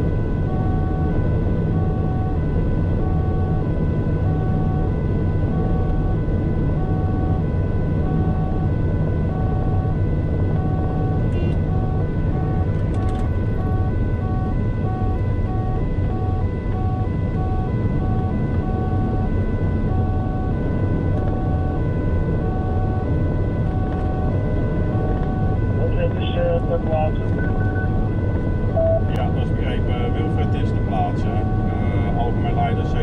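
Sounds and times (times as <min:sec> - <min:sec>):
two-tone siren: 0:00.0 - 0:33.0.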